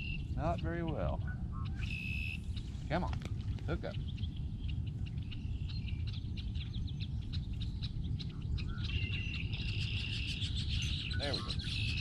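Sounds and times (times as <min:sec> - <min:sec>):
small birds chirping: 0:00.0 - 0:12.0
wind rumble on microphone: 0:00.0 - 0:12.0.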